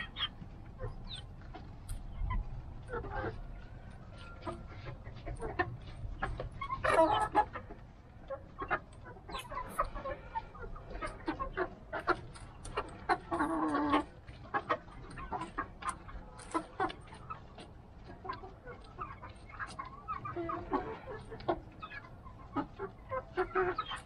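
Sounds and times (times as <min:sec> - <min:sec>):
loud chicken calls: 0:00.0 - 0:17.3, 0:18.2 - 0:24.0
chickens clucking: 0:00.0 - 0:24.0
chickens pecking taps: 0:00.0 - 0:24.0.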